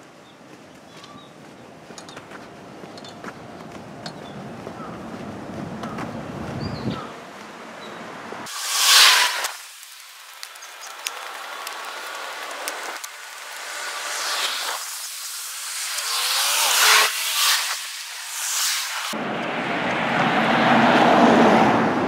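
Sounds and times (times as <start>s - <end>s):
vehicles passing: 0.0s - 9.5s, 10.5s - 22.0s.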